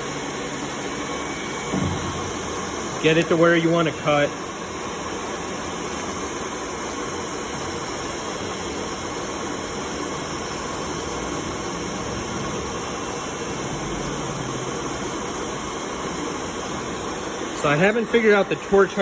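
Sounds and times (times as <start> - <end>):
machinery hiss with low hum: 0.0 - 19.0.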